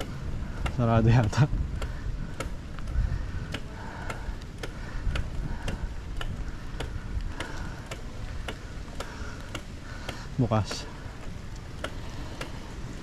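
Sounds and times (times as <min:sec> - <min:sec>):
bike drivetrain ticking: 0:00.0 - 0:13.0
low wind rumble: 0:00.0 - 0:13.0.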